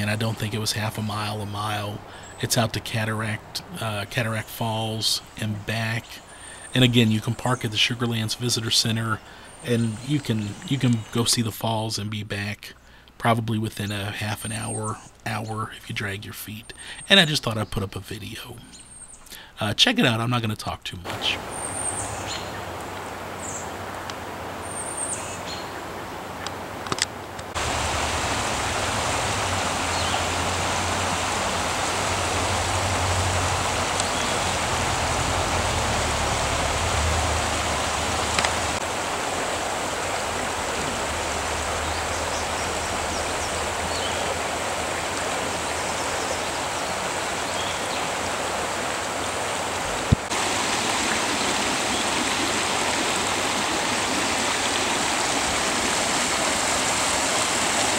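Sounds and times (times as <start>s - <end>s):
stream rushing over waterfall: 0.0s - 11.4s, 21.0s - 57.9s.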